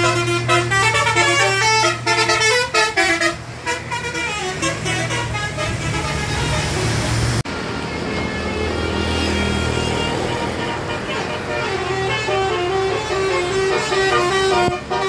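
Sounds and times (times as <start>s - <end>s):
bus engine humming: 0.0s - 15.0s
bus horn playing tune: 0.0s - 15.0s.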